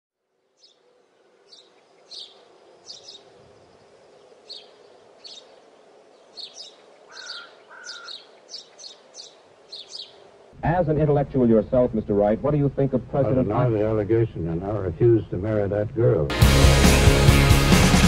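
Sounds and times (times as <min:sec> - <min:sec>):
faint steady hum: 0:00.2 - 0:16.3
birds chirping: 0:00.4 - 0:16.3.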